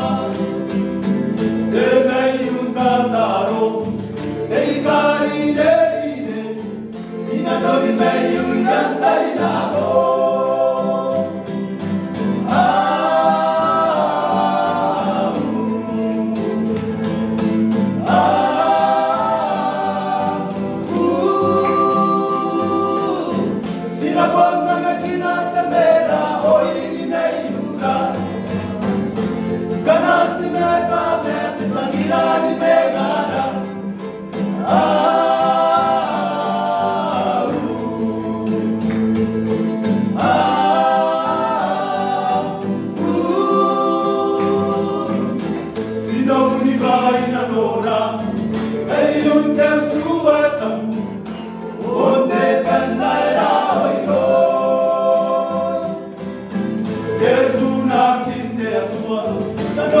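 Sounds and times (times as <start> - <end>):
men singing in harmony: 0.0 - 60.0
strummed acoustic guitar: 0.0 - 60.0.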